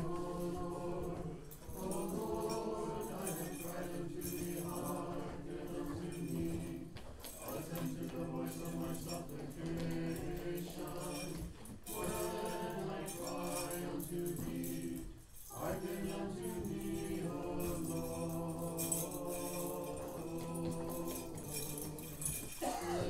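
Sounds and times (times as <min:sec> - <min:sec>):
censer bells jingling: 0:00.0 - 0:23.0
choir chanting in harmony: 0:00.0 - 0:23.0.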